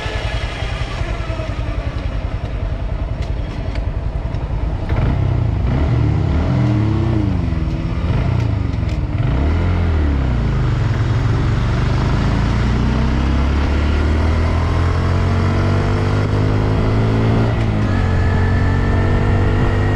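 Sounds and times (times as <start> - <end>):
motorcycle engine revving: 0.0 - 19.9
wind and road noise: 0.0 - 19.9.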